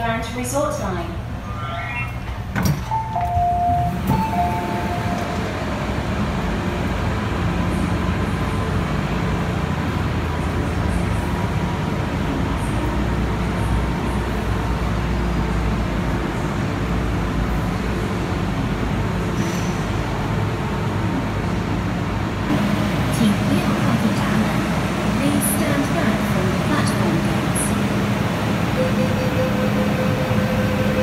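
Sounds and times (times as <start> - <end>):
train rumble and hum: 2.2 - 31.0.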